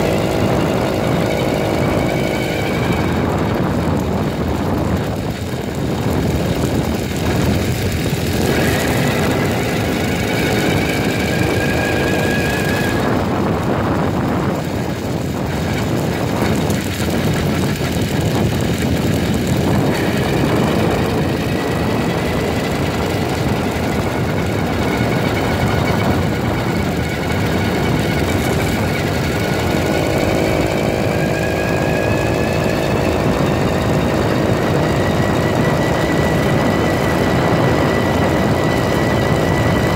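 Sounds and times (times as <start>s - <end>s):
motorized bicycle engine running: 0.0s - 39.9s
wind rushing over microphone: 0.0s - 39.9s.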